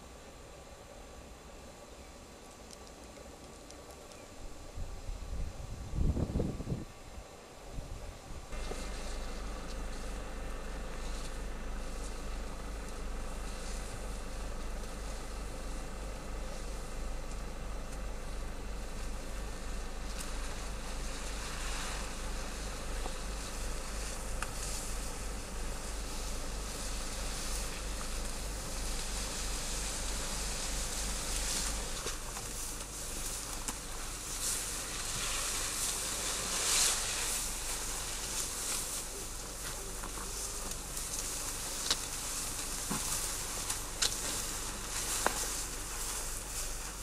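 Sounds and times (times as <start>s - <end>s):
constant low hum: 0.0s - 47.0s
insects buzzing: 0.0s - 47.0s
rustling and snapping in bush: 8.5s - 47.0s.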